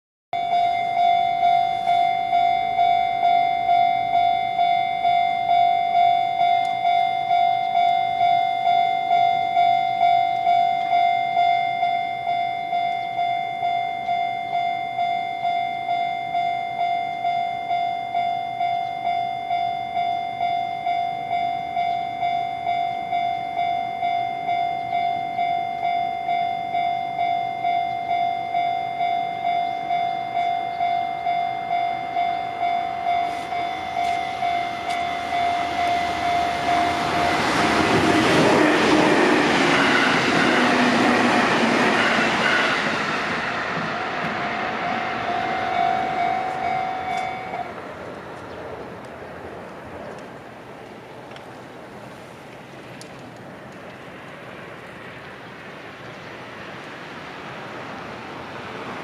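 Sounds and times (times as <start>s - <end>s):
level crossing alarm bell: 0.4s - 47.8s.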